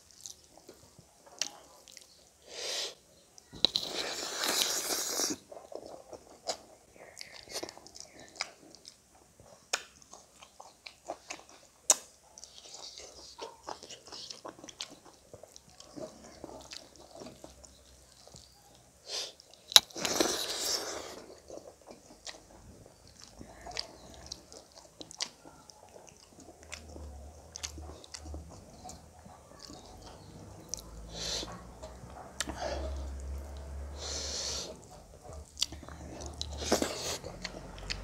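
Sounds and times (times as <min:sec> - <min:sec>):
close chewing and mouth clicks: 0:00.0 - 0:02.4, 0:03.4 - 0:38.0.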